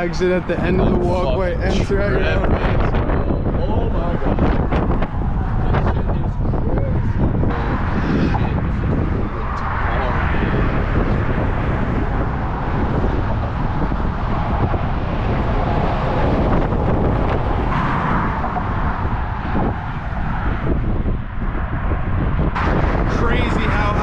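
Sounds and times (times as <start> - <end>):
highway traffic passing: 0.0 - 24.0
wind buffeting microphone: 0.0 - 24.0.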